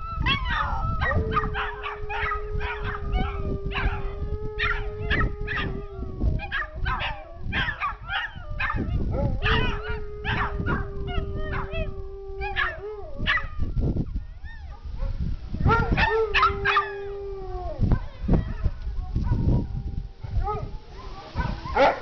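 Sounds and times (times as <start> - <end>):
dog howling long notes: 0.0 - 14.7, 15.6 - 22.0
small dogs yelping howls: 0.0 - 14.9, 15.6 - 22.0.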